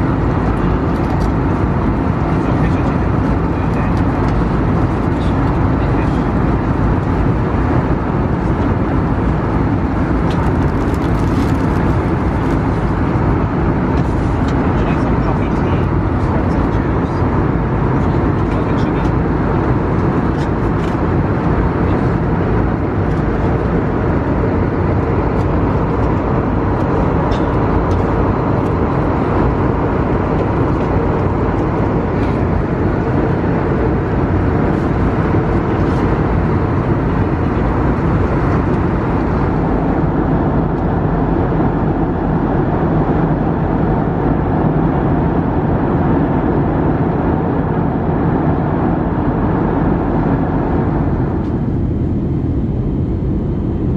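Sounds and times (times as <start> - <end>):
airplane cabin airflow and engine: 0.0 - 53.9.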